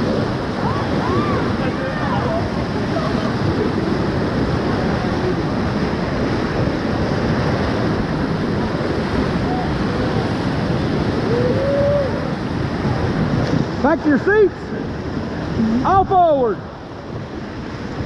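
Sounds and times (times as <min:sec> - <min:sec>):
whitewater river rushing: 0:00.0 - 0:18.0.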